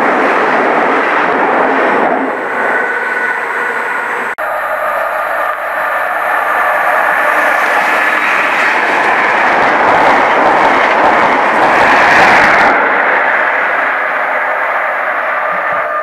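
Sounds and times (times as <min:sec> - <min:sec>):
diesel train passing at speed: 0:00.0 - 0:16.0.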